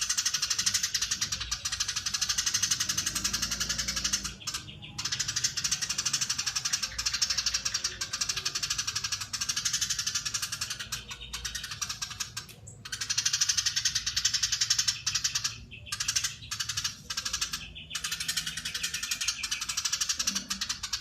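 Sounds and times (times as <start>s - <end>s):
sparrow chattering trill: 0.0s - 21.0s.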